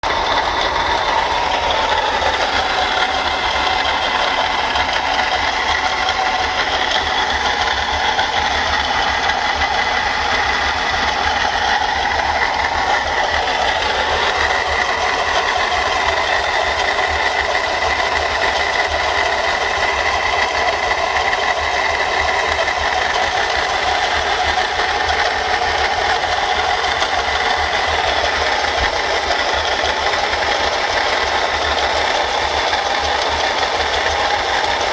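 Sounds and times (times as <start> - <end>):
car engine running: 0.0 - 34.9
water pump rattling: 0.0 - 34.9.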